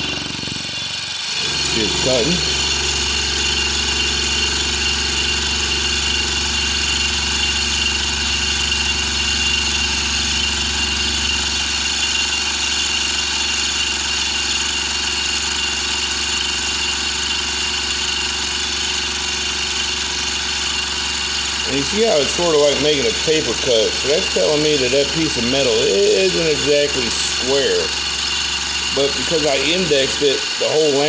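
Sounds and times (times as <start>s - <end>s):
milling machine hum: 0.0s - 31.0s.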